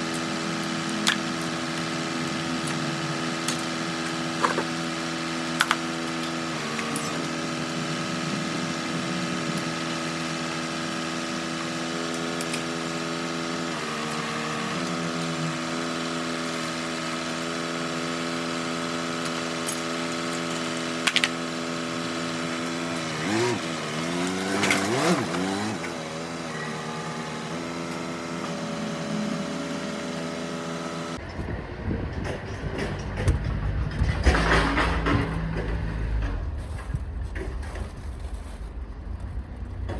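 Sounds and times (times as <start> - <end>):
engine running and revving: 0.0 - 39.9.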